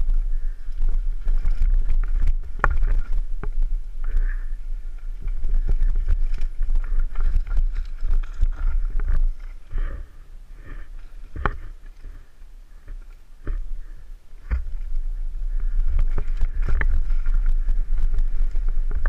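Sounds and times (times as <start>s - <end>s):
bike rattling and knocking: 0.0s - 19.0s
wind rumble on microphone: 0.0s - 19.0s.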